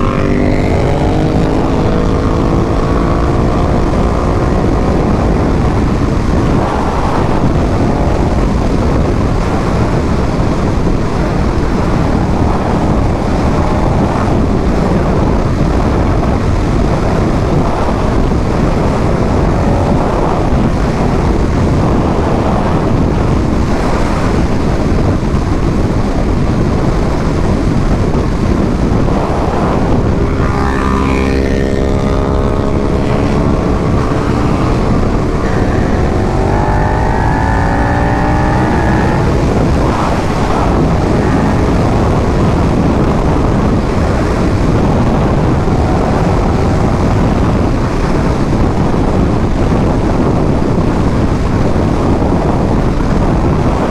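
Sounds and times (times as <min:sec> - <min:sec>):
motorcycle engine: 0:00.0 - 0:53.9
wind buffeting microphone: 0:00.0 - 0:53.9.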